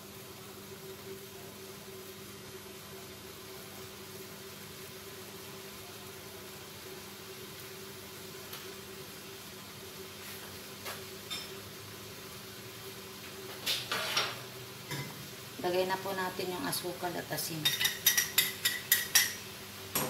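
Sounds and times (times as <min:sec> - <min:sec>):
chili paste simmering in oil: 0:00.0 - 0:20.0.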